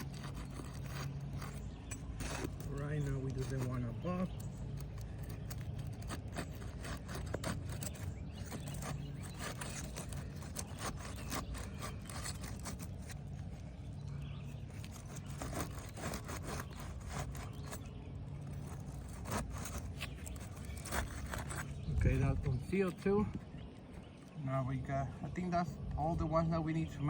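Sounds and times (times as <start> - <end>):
tool scraping under shingle: 0.0 - 27.0.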